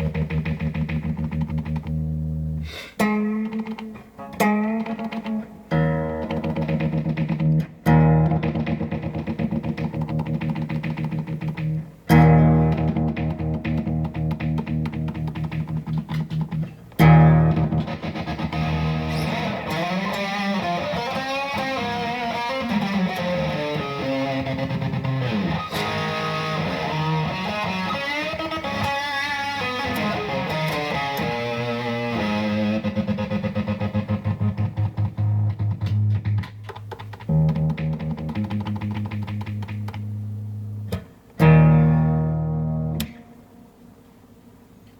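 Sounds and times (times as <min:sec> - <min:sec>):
distorted electric guitar riff: 0:00.0 - 0:43.6
guitar signal stuttering on and off: 0:00.0 - 0:44.9.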